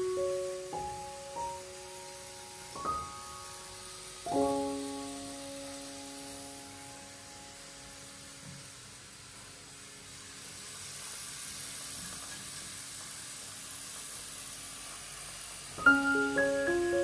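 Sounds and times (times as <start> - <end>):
steady soft hiss: 0.0 - 17.0.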